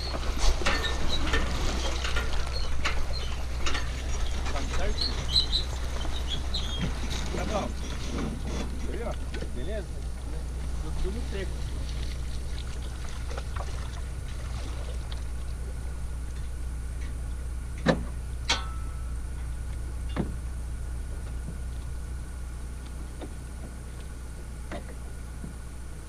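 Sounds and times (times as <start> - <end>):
boat motor drone: 0.0 - 26.0
water rushing along hull: 0.0 - 26.0.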